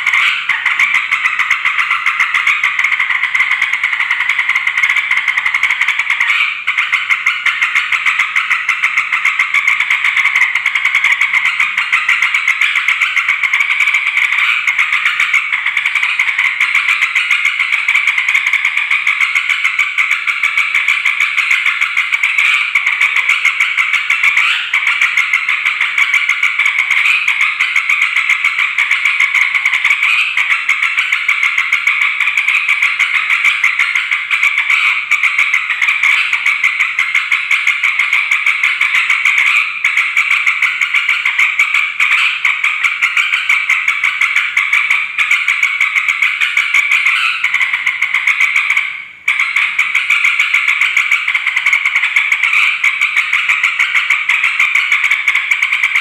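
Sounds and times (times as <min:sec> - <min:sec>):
bulbuls chattering: 0:00.0 - 0:56.0.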